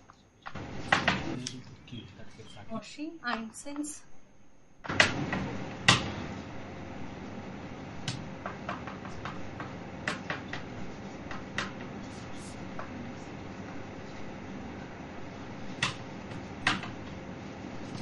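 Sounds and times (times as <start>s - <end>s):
steady room hiss: 0.0s - 18.0s.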